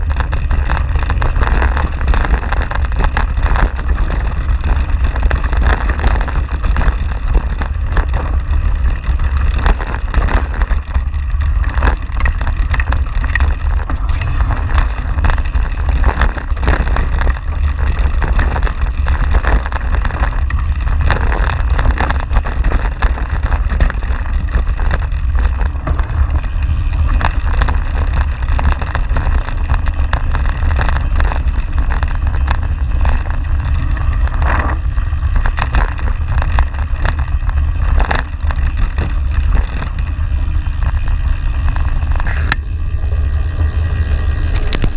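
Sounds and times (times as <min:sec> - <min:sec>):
bike rattling over bumps: 0:00.0 - 0:44.9
bike tyres on dirt: 0:00.0 - 0:44.9
wind on microphone: 0:00.0 - 0:44.9.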